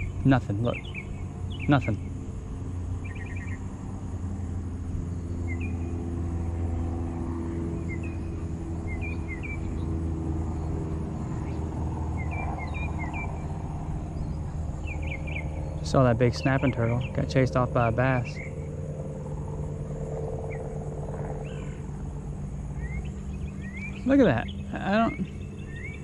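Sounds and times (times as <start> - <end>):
low mechanical rumble: 0.0 - 26.0
small birds chirping: 0.0 - 26.0.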